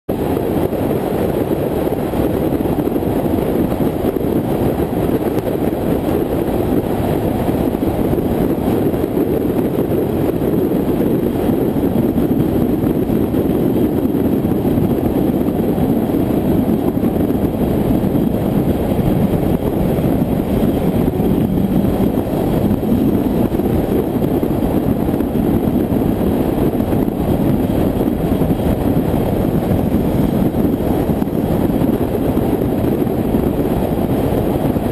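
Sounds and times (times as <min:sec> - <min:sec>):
car driving on highway: 0:00.1 - 0:34.9.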